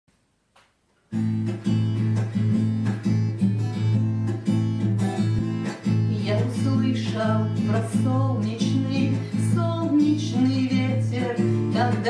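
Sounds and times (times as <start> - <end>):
acoustic guitar strumming chords: 1.1 - 12.0.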